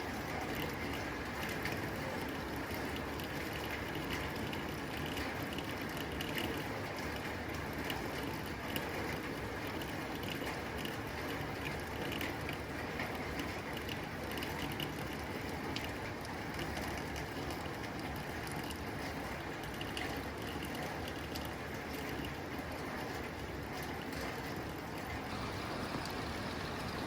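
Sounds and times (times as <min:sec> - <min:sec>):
rain on a tin roof: 0:00.0 - 0:27.0.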